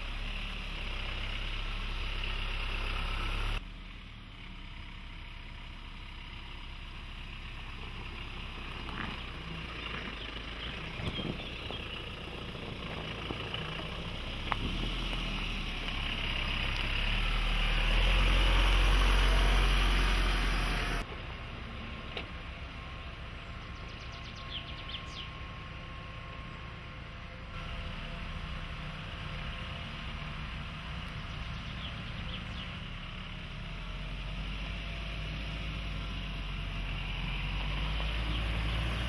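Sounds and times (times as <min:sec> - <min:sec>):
diesel engine rumbling: 0:00.0 - 0:39.0.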